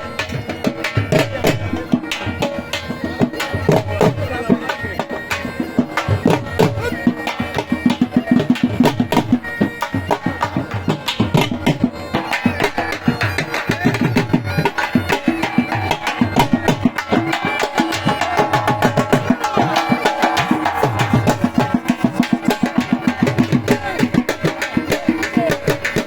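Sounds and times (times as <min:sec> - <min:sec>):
music with fast percussion beat: 0:00.0 - 0:26.0.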